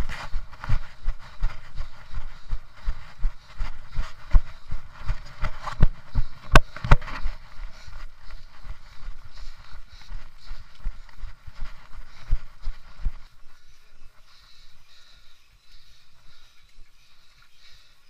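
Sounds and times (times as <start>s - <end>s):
running footsteps on gravel: 0.0s - 18.0s.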